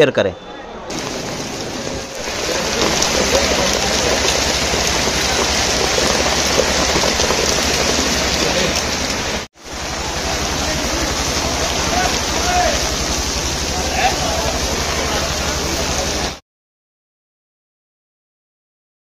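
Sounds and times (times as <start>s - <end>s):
heavy rain on street: 0.8s - 16.4s.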